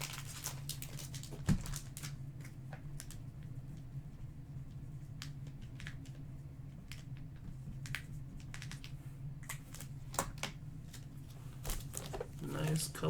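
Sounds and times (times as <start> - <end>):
steady low hum: 1.7 - 13.0.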